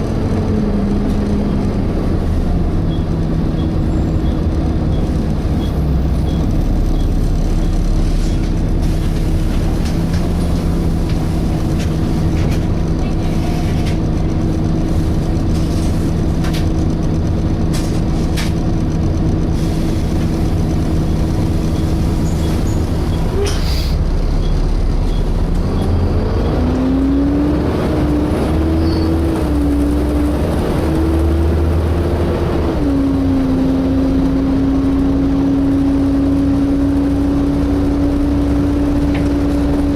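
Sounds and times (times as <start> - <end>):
bus diesel engine: 0.0 - 39.9.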